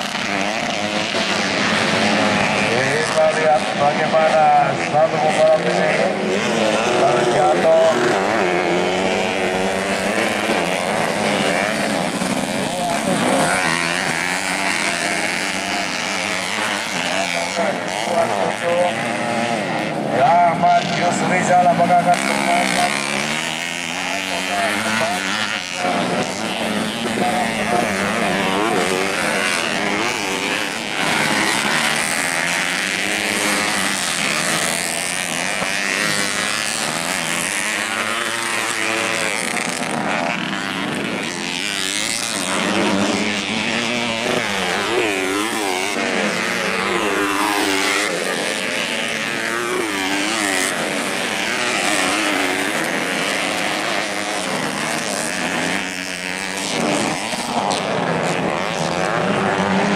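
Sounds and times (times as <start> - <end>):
motocross engines revving: 0.0 - 59.9.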